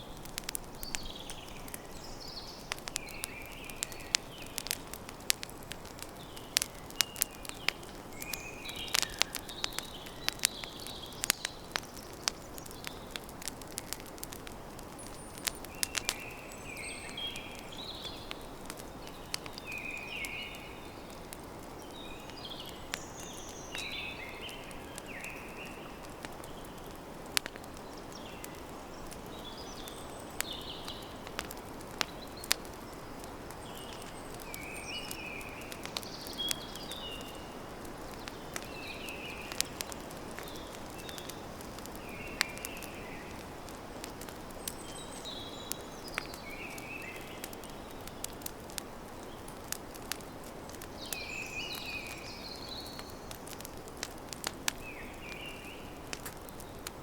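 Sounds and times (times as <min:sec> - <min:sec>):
birds chirping: 0:00.0 - 0:57.0
campfire crackling and popping: 0:00.0 - 0:57.0.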